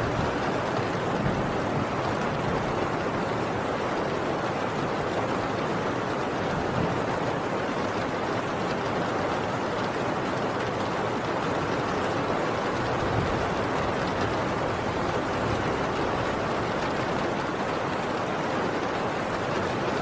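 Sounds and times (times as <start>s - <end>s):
heavy rain on a tin roof: 0.0s - 20.0s.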